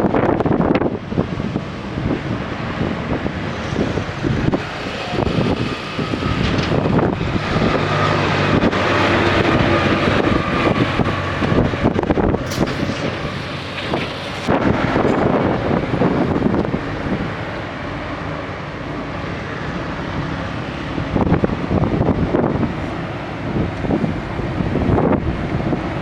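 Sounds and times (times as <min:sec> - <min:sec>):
diesel engine running: 0:00.0 - 0:26.0
wind buffeting microphone: 0:00.0 - 0:26.0.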